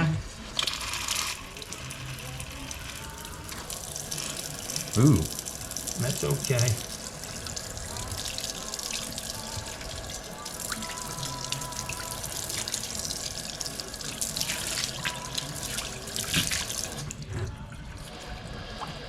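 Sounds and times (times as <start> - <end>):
faucet water splashing into sink: 0.5 - 17.3.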